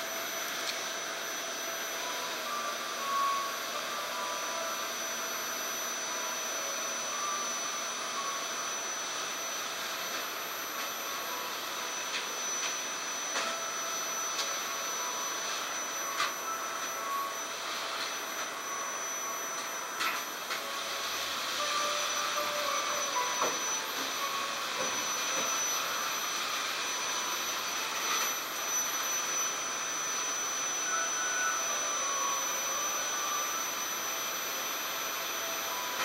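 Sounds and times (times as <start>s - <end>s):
faint high steady tones: 0.0s - 36.0s.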